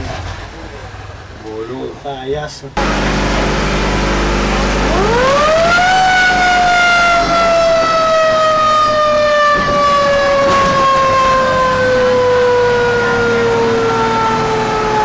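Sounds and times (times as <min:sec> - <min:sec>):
fire truck siren: 0:02.8 - 0:15.0.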